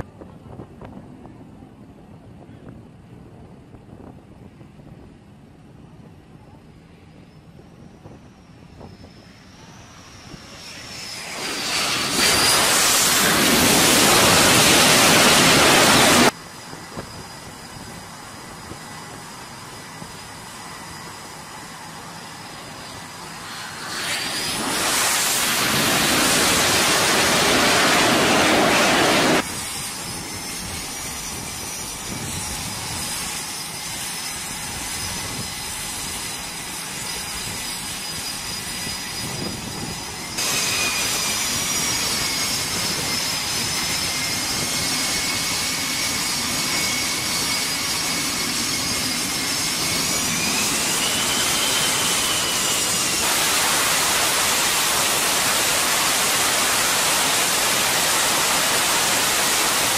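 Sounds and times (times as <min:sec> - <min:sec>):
jet engines running: 0:00.0 - 0:59.9
jet flying low overhead: 0:00.0 - 0:59.9
high whining engine tones: 0:07.1 - 0:59.9.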